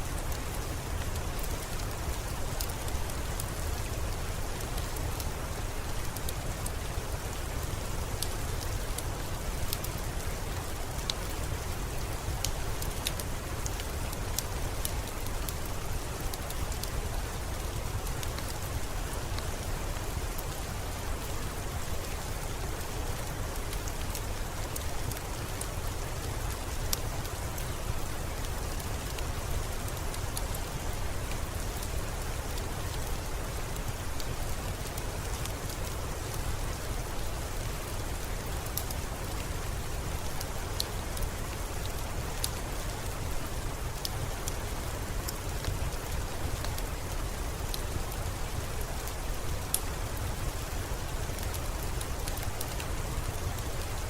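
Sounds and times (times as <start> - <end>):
steady rain: 0.0 - 54.0
wood fire crackling: 0.2 - 54.0.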